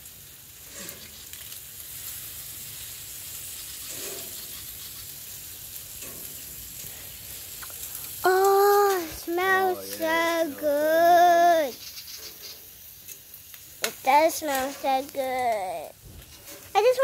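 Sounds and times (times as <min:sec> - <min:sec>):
food sizzling on barbecue: 0:00.0 - 0:17.0.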